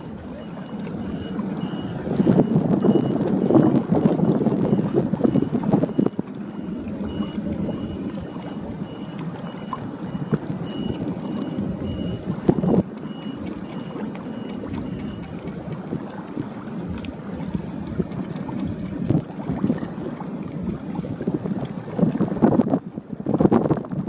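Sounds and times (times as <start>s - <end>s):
low rumble of harbour noise: 0.0s - 24.0s
wind buffeting microphone: 0.0s - 24.0s.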